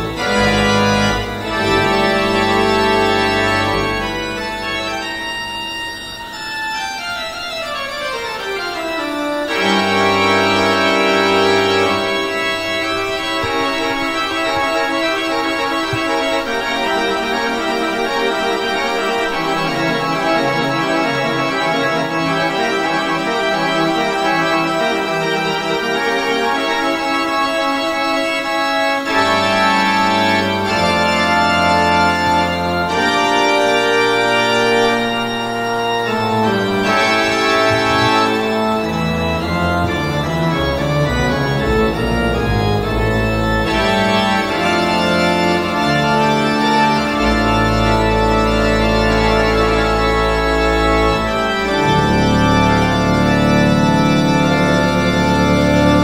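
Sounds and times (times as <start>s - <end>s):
organ chords: 0.0s - 56.0s.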